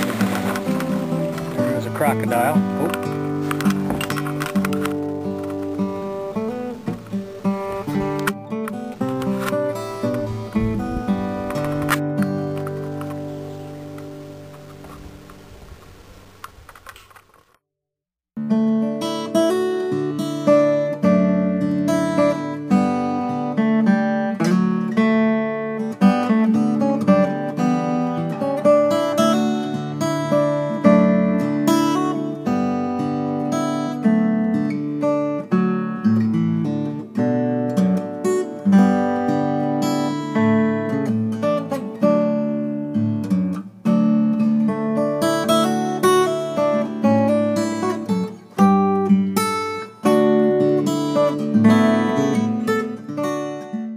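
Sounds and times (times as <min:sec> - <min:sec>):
acoustic guitar strumming and plucking: 0:00.0 - 0:17.2, 0:18.4 - 0:53.9.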